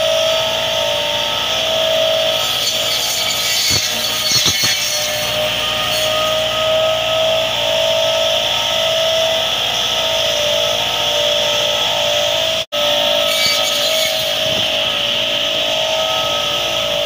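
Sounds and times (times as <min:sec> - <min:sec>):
rotary disc trimmer whining: 0:00.0 - 0:17.0.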